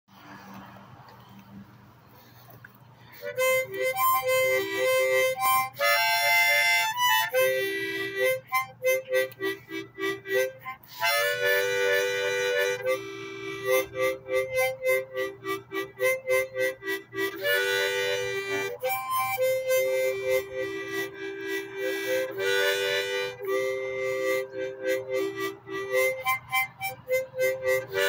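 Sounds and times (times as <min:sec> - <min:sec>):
harmonica music: 0:03.0 - 0:28.0.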